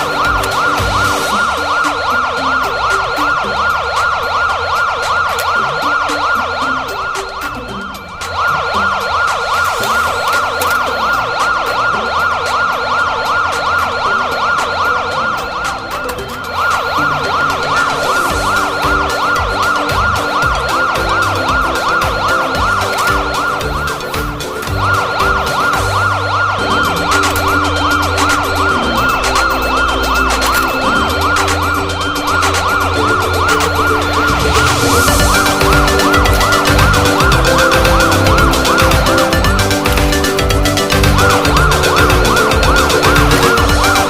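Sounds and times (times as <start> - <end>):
background music: 0.0 - 44.0
emergency siren warbling: 0.0 - 44.0.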